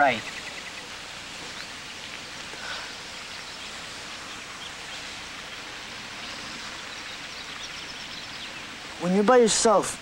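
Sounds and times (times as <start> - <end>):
bird chirps: 0.0 - 8.8
steady hiss: 0.0 - 10.0.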